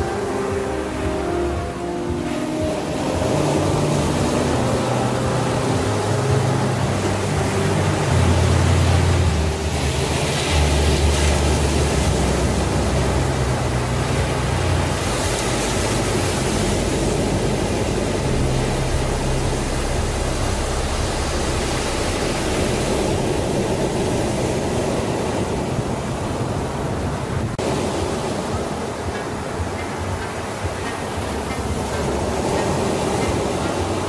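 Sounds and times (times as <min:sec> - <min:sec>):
low sustained notes: 0:00.0 - 0:34.0
waves breaking on beach: 0:00.0 - 0:34.0.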